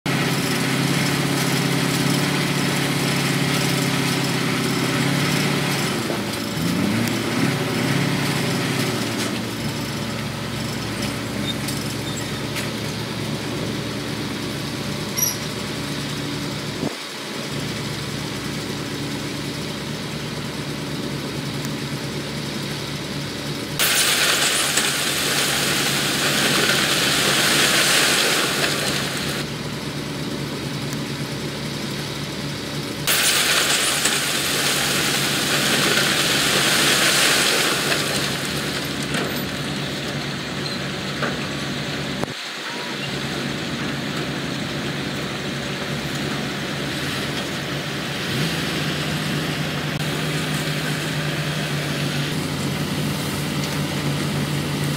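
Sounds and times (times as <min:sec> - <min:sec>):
construction machinery diesel engines: 0:00.0 - 0:54.9.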